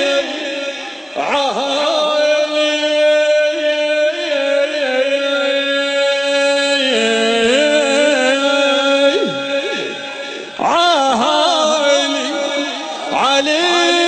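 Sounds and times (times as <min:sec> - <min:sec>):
man chanting unaccompanied: 0:00.0 - 0:14.0.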